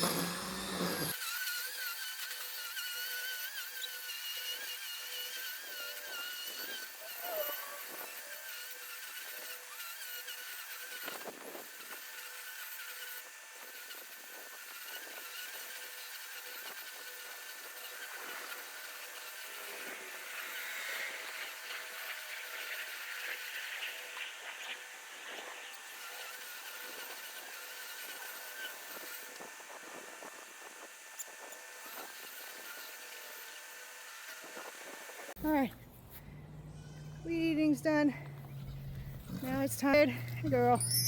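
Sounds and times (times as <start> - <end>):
string trimmer whining: 0.0 - 41.0.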